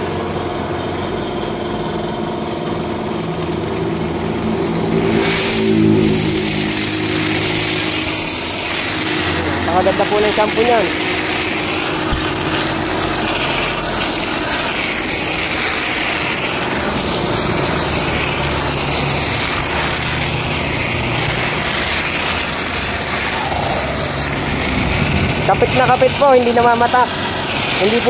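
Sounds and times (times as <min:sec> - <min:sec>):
low machine hum: 0:00.0 - 0:28.0
foam nozzle spraying hiss: 0:04.9 - 0:28.0.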